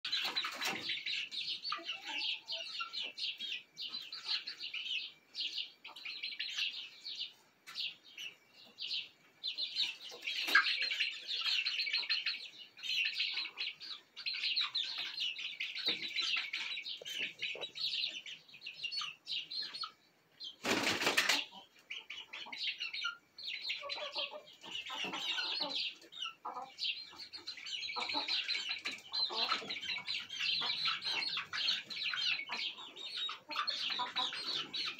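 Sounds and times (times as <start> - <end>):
chicks peeping and chirping: 0.0 - 34.9.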